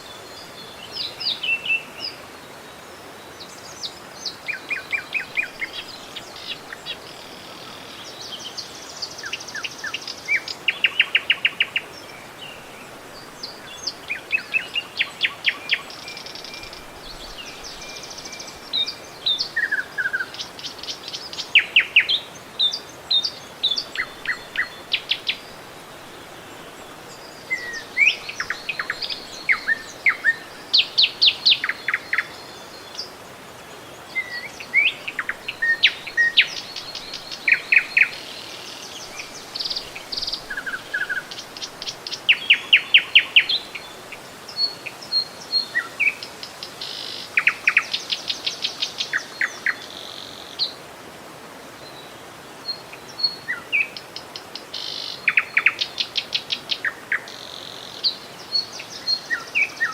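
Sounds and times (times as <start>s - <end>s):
songbirds singing and trilling: 0.0s - 50.9s, 51.6s - 59.9s
running river water: 0.0s - 59.9s.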